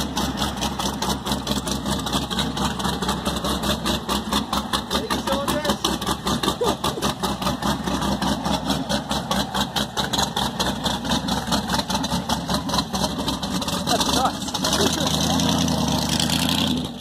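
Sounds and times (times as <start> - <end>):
motorcycle engine idling: 0.0 - 15.6.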